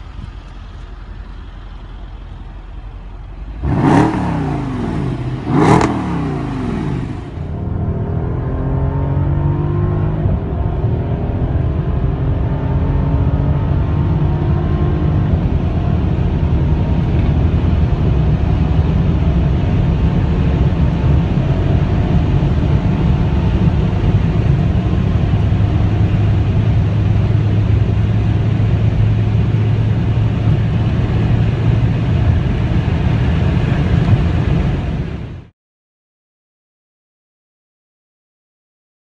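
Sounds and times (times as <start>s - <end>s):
car engine and road noise: 0.0s - 35.5s.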